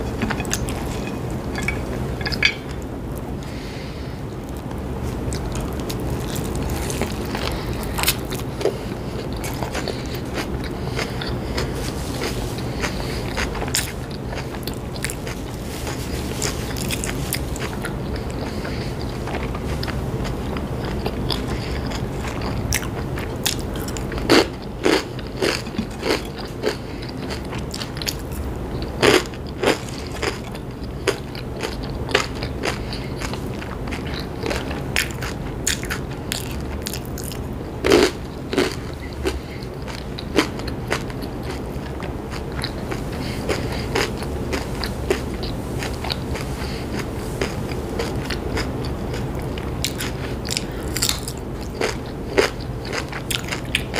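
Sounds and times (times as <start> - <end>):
chewing crunchy chips: 0.0 - 53.9.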